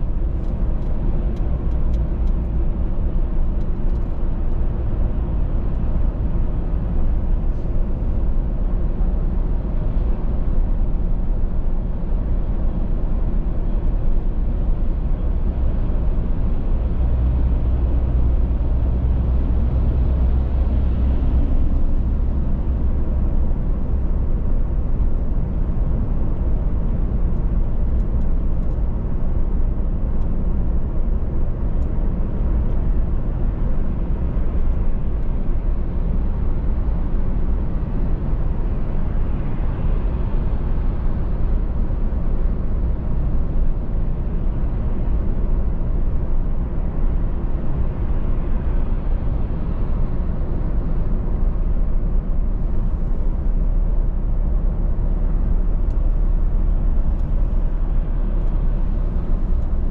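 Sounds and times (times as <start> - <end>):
car tyre and engine rumble: 0.0 - 59.9.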